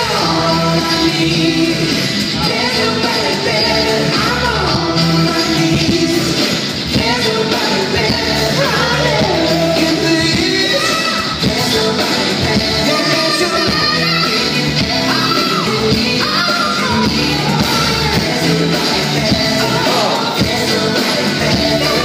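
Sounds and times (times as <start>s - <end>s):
man singing: 0.0s - 22.0s
pop backing track: 0.0s - 22.0s.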